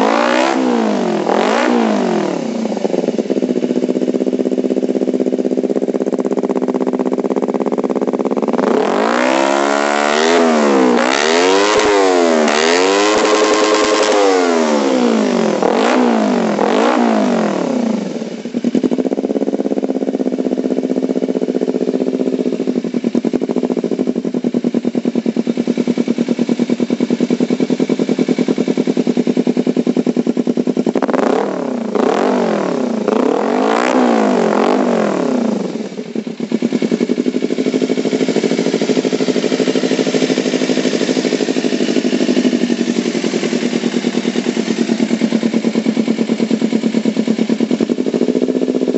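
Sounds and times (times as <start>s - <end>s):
motorcycle engine idling and revving: 0.0s - 48.9s.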